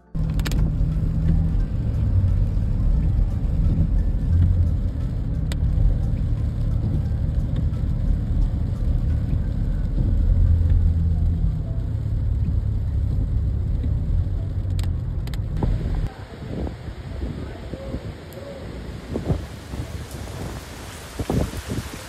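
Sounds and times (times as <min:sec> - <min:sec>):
road and engine rumble: 0:00.0 - 0:22.0
rain hiss: 0:00.2 - 0:22.0.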